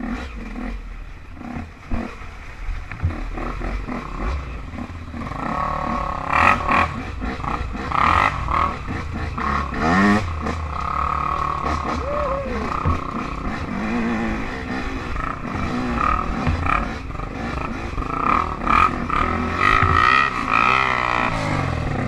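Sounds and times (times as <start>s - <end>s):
off-road engines revving: 0.0s - 22.0s.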